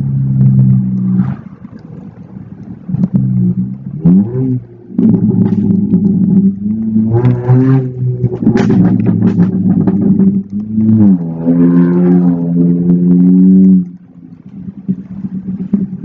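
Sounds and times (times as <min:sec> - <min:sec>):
car exhaust revving: 0:00.0 - 0:16.0.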